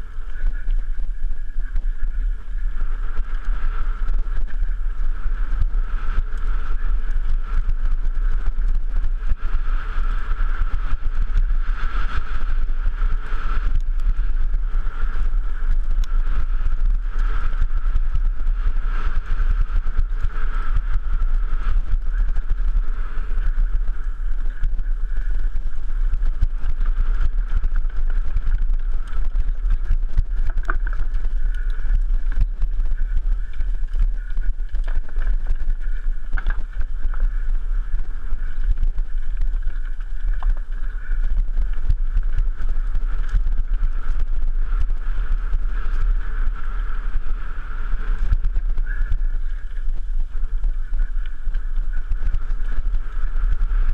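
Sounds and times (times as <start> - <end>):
bike tyres crunching on stones: 0.0 - 53.9
wind rumble on microphone: 0.0 - 53.9.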